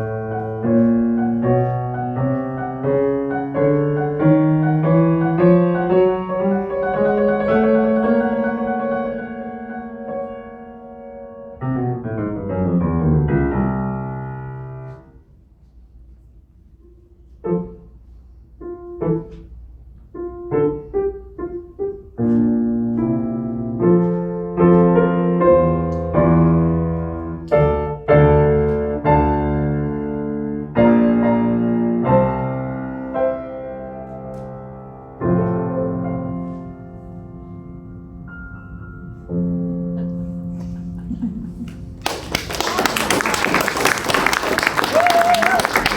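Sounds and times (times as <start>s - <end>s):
solo piano: 0.0s - 15.4s, 16.7s - 43.0s.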